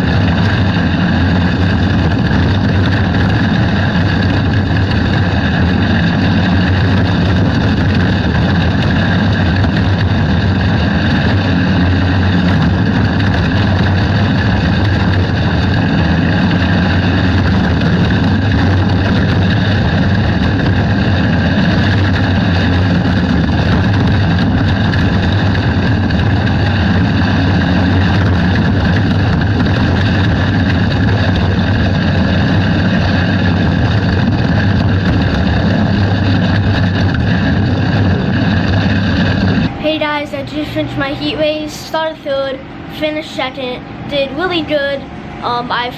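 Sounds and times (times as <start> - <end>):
kart engine running hard: 0.0 - 45.9
other kart engines: 0.0 - 45.9.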